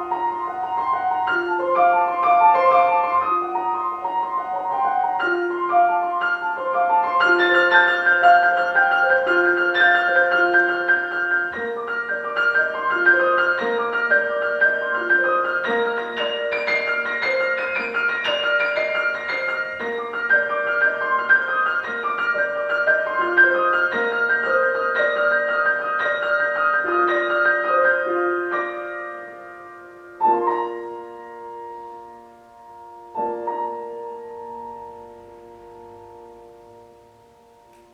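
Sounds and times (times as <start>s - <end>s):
solo piano music: 0.0s - 37.9s.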